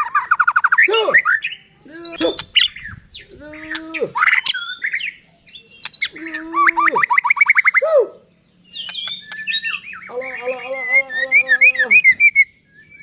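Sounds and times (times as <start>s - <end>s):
bird singing loudly: 0.0s - 13.0s.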